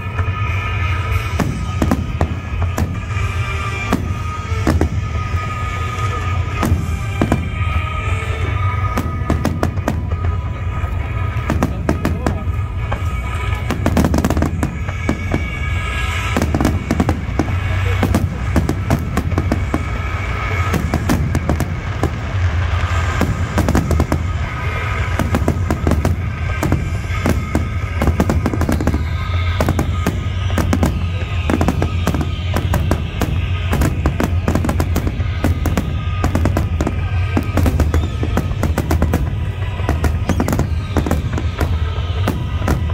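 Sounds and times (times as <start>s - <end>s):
fireworks bursting: 0.0s - 42.9s
music playing: 0.0s - 42.9s.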